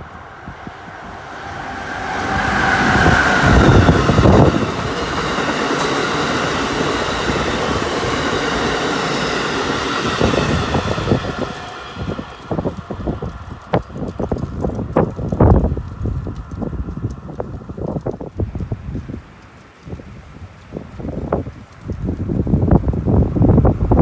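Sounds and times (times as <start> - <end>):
train passing at speed: 0.0 - 19.6
wheels rumbling on rails: 0.0 - 24.0.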